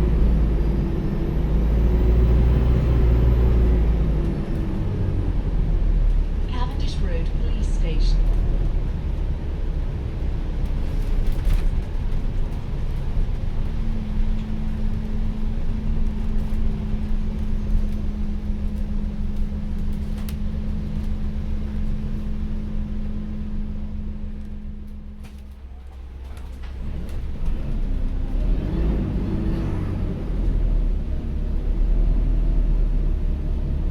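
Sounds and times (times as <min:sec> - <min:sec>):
bus engine rumble: 0:00.0 - 0:33.9.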